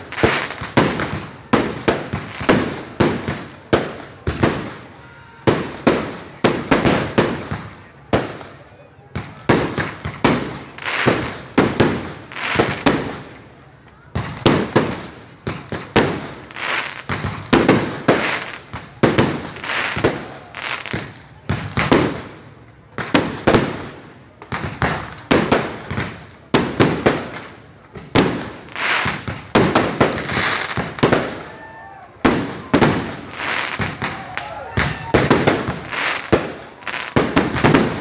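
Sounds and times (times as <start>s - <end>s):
fireworks banging: 0.0s - 38.0s.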